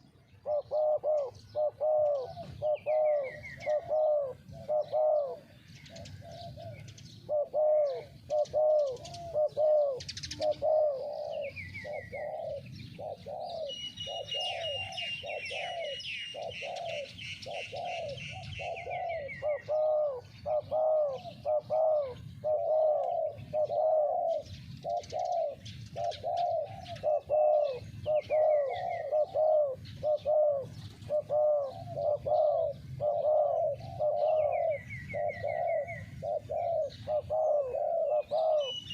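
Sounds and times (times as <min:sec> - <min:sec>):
doves cooing: 0:00.0 - 0:38.9
small bird chirping: 0:00.0 - 0:38.9.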